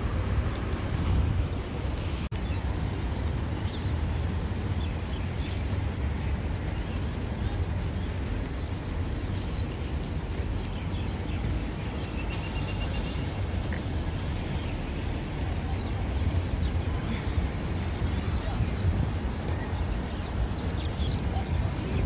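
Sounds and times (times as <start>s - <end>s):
steady low rumble: 0.0s - 22.0s
small birds chirping: 2.3s - 22.0s.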